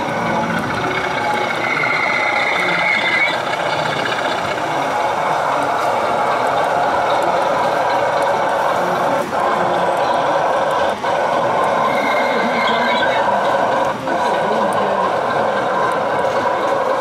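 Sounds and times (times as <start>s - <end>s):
high whine: 0.0s - 13.8s
model train diesel engine sound: 0.0s - 17.0s.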